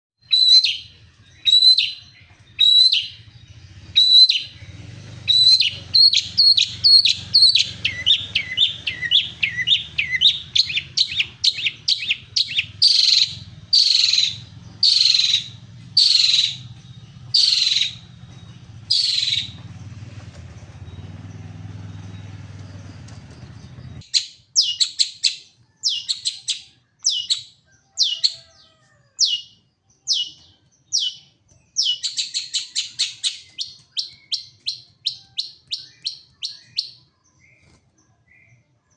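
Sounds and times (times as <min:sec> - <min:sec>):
shrike singing sharp calls: 0:00.2 - 0:28.6, 0:29.2 - 0:37.0.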